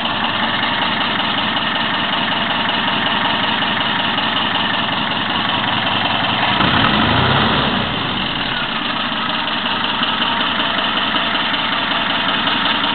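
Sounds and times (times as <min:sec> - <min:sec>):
petrol engine idling: 0:00.0 - 0:12.9.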